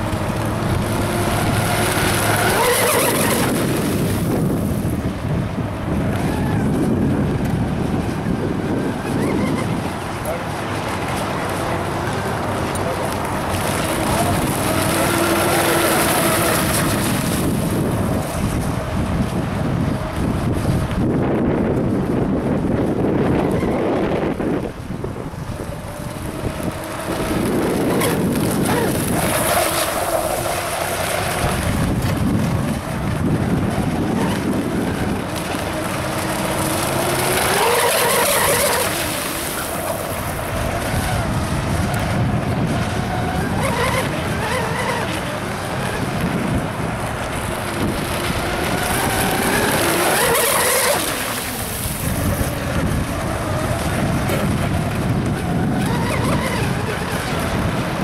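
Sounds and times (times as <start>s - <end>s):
radio-controlled speedboat motor: 0.0s - 21.9s, 22.6s - 58.0s
wind buffeting microphone: 0.0s - 58.0s.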